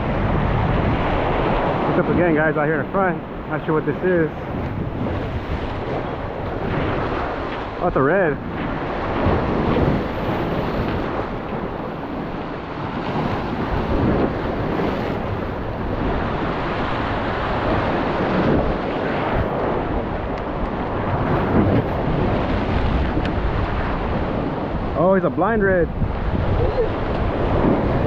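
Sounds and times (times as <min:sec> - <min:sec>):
wind buffeting microphone: 0:00.0 - 0:28.0
waves splashing against rocks: 0:00.2 - 0:28.0.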